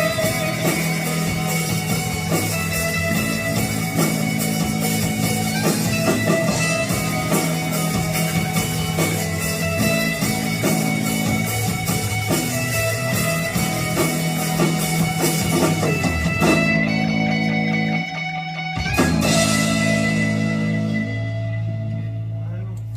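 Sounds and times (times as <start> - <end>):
guitar over drums: 0.0 - 22.9.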